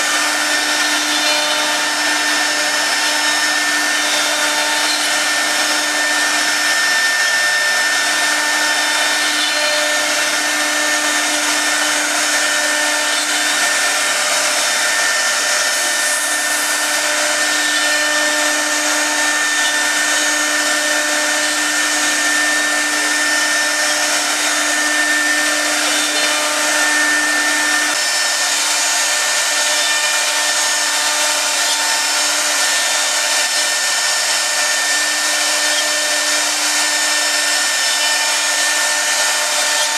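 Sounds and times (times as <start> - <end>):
router spindles whining: 0.0 - 39.9.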